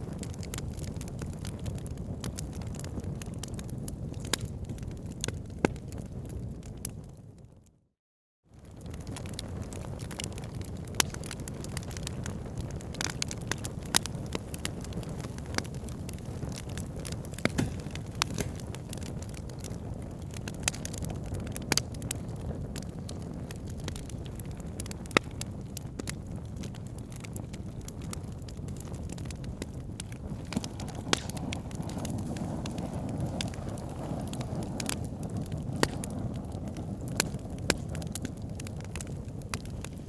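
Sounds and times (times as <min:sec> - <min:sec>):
fire crackling and popping: 0:00.0 - 0:07.4, 0:08.5 - 0:40.0.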